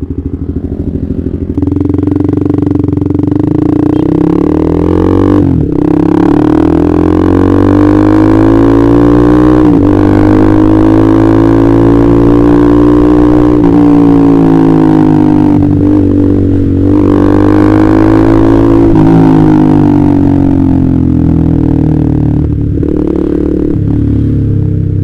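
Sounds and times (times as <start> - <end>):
motorcycle engine droning: 0.0 - 25.0.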